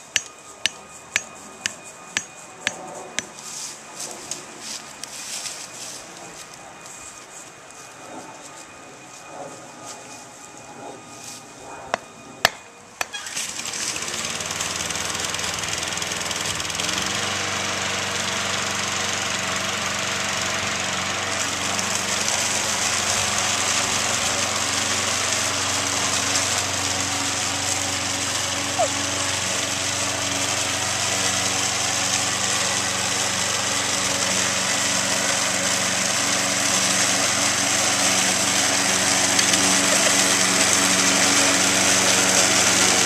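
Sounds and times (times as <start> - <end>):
lawn mower engine running: 0.0 - 8.6, 12.0 - 43.0.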